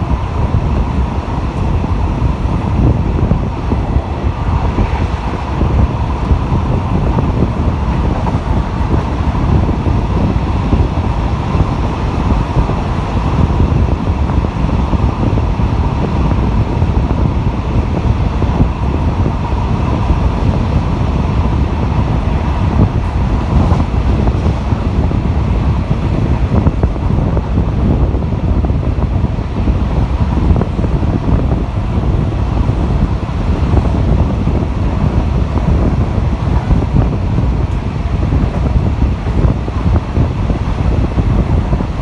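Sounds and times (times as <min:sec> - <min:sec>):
train running noise: 0:00.0 - 0:42.0
wind buffeting the microphone: 0:00.0 - 0:42.0.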